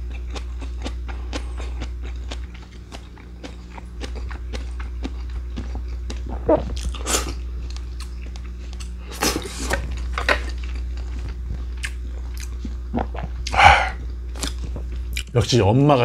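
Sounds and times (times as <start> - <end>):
person chewing food: 0.0 - 15.3
steady low hum: 0.0 - 16.0.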